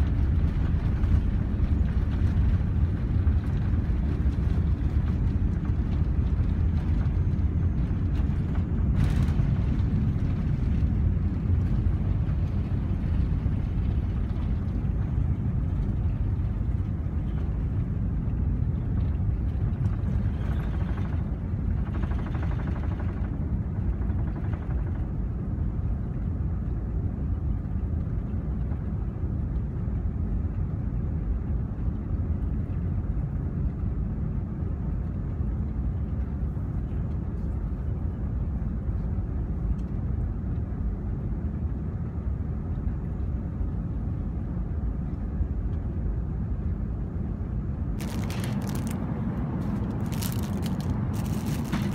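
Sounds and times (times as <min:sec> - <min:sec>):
deep rumble of jet engines: 0:00.0 - 0:51.9.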